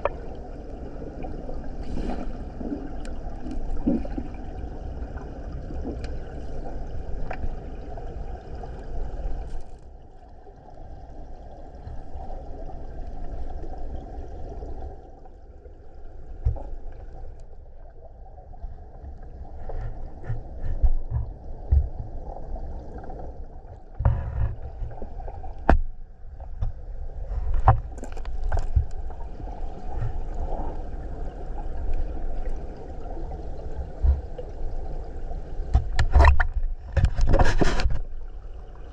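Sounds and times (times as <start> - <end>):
muffled water sloshing: 0.0 - 38.9.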